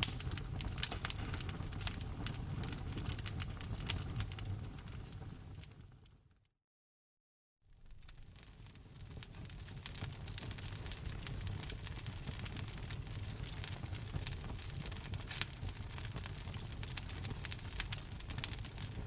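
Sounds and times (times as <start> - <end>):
wood fire crackling and popping: 0.0 - 6.2, 7.8 - 19.0.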